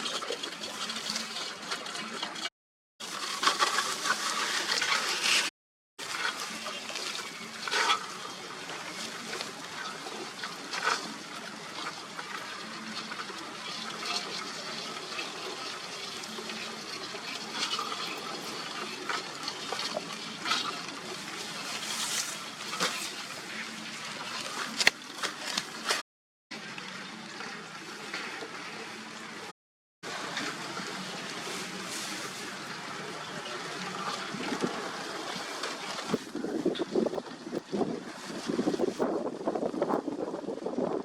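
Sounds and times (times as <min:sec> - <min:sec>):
water running and splashing: 0:00.0 - 0:26.0, 0:26.6 - 0:41.0.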